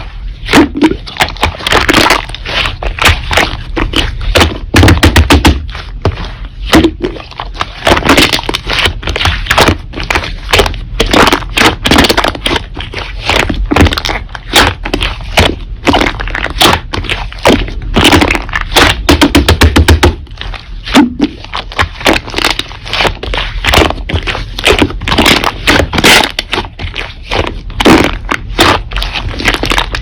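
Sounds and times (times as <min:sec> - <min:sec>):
slime crackling and popping: 0:00.0 - 0:30.0.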